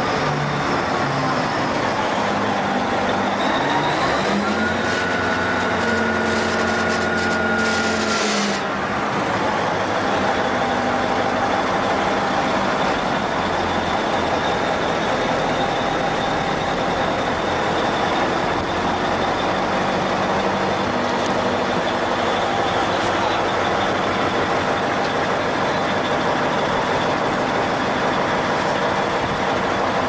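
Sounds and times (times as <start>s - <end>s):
heavy vehicle engine running: 0.0s - 30.0s.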